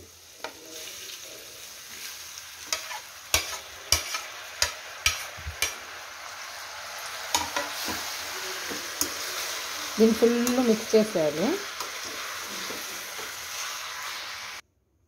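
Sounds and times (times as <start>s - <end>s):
oil sizzling: 0.0s - 14.6s.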